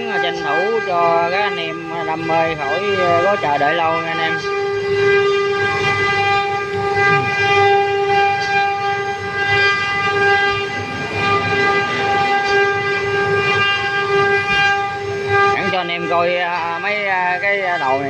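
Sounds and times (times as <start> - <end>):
router cutting wood: 0.0 - 18.0
router spindle whining: 0.0 - 18.0.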